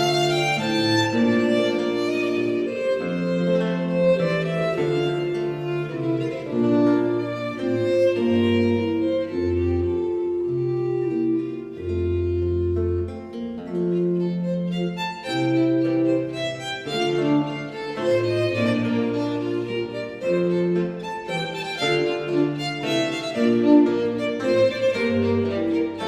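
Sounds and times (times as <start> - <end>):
bowed strings playing: 0.0 - 26.0.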